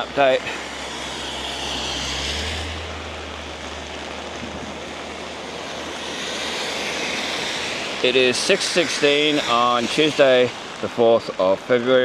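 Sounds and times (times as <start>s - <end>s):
low rumble: 0.0s - 11.4s
heavy rain falling: 0.0s - 12.0s.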